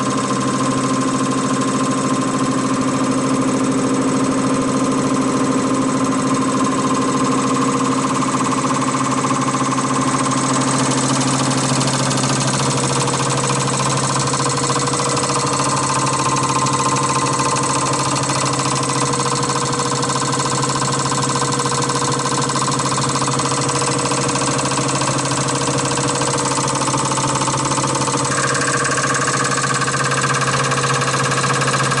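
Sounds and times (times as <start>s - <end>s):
high-pressure pump humming: 0.0s - 32.0s.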